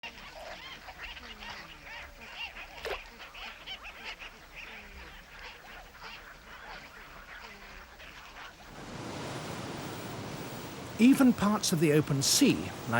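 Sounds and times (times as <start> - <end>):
flock of gulls calling: 0.0 - 12.9.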